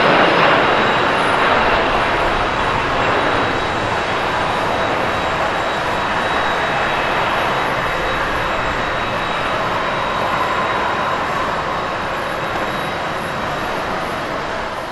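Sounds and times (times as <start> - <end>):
jet aircraft roar: 0.0 - 14.9.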